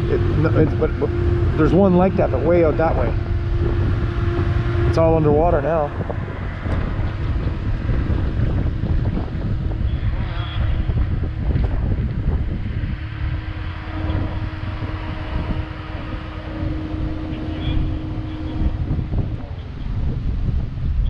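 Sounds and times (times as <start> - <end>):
vehicle engine idling: 0.0 - 21.0
wind buffeting microphone: 0.0 - 21.0.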